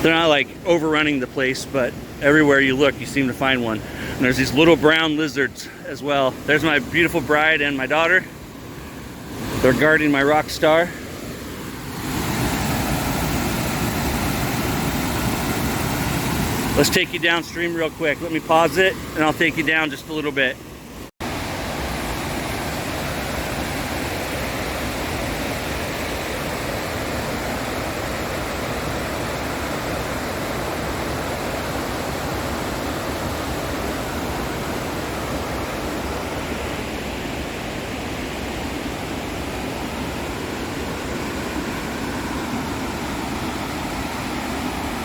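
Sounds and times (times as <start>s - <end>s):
waterfall roar: 0.0s - 20.5s, 21.3s - 45.0s.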